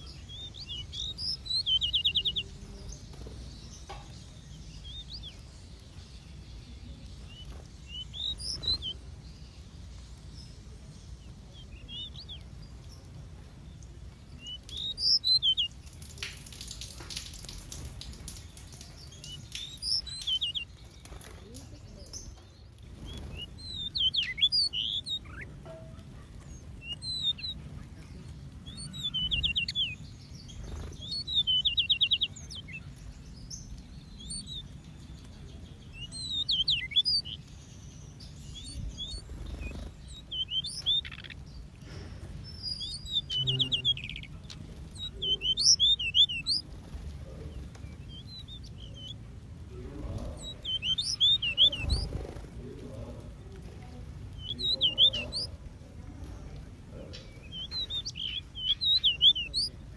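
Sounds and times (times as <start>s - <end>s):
buzzy bird trills: 0.0s - 9.6s, 14.4s - 41.7s, 42.3s - 49.2s, 49.8s - 53.1s, 53.7s - 55.6s, 57.0s - 59.8s
small birds chirping: 0.0s - 59.9s.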